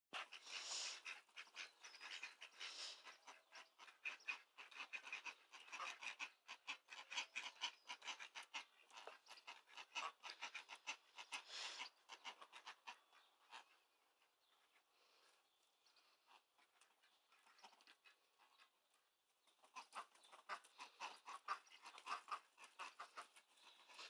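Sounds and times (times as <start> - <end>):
ducks chattering: 0.2 - 15.2, 19.5 - 24.0.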